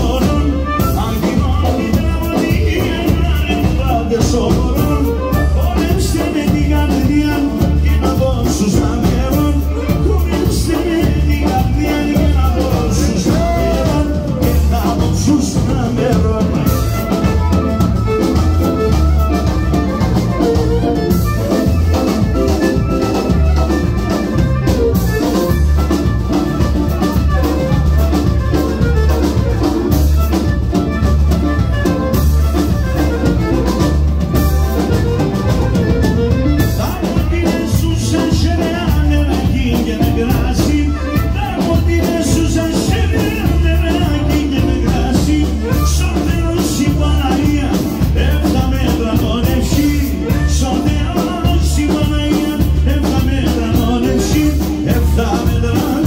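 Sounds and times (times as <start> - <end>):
band playing dance music: 0.0 - 56.0
drum kit beat: 0.0 - 56.0.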